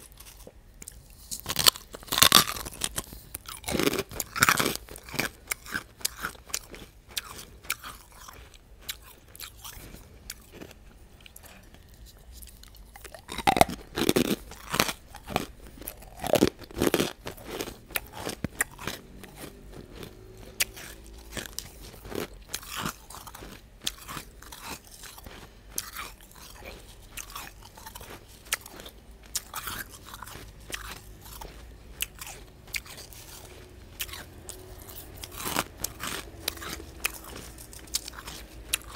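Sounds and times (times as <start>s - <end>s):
chewing crushed ice: 0.0s - 38.9s.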